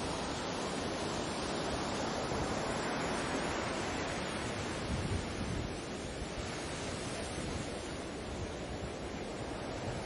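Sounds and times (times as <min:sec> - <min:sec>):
sea surf rushing: 0:00.0 - 0:10.0.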